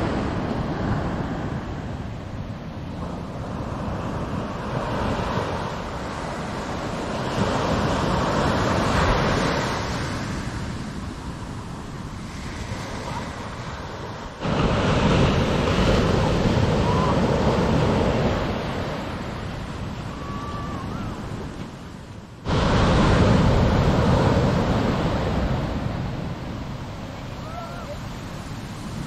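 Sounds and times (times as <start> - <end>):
ocean surf breaking on beach: 0.0 - 29.0.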